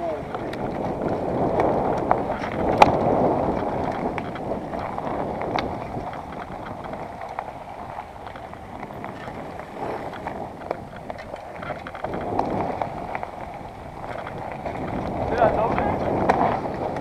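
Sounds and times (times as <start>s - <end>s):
bike rattling clicks and knocks: 0.0s - 17.0s
tyre and trail noise: 0.0s - 17.0s
wind on microphone: 0.0s - 17.0s.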